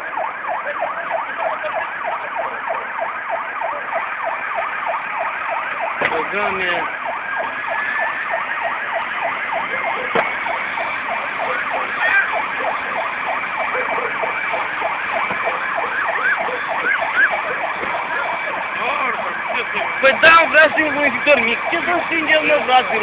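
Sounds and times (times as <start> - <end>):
emergency sirens yelping: 0.0 - 23.0
steady high siren tone: 0.0 - 23.0.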